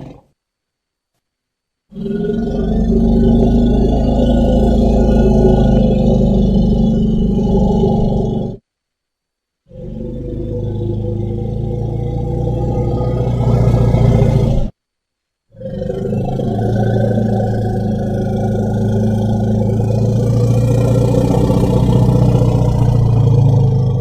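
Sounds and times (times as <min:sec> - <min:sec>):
low rough dinosaur growl: 0:01.9 - 0:08.6, 0:09.7 - 0:14.7, 0:15.5 - 0:24.0.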